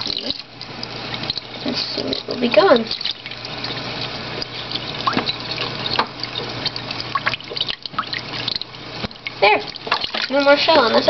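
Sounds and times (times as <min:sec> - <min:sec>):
tap water splashing into sink: 0:00.0 - 0:11.0.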